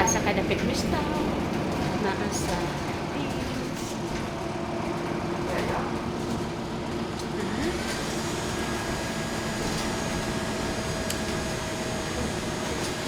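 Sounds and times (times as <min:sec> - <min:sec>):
bus cabin noise: 0:00.0 - 0:13.0
bus engine hum: 0:00.0 - 0:13.0.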